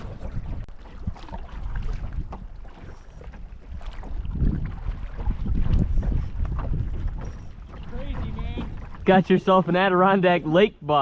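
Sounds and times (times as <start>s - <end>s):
wind rumbling on microphone: 0.0s - 9.7s
paddle splashes and knocks: 0.0s - 11.0s.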